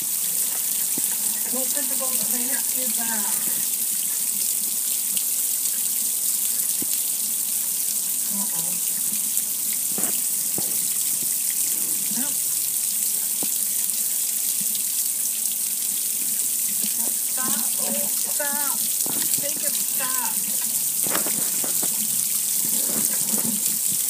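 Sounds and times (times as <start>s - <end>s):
water pouring onto grill: 0.0s - 24.0s.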